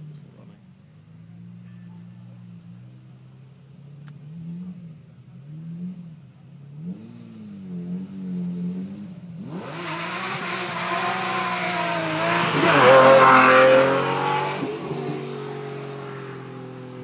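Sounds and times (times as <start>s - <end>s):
sports car engine revving: 2.0s - 17.0s.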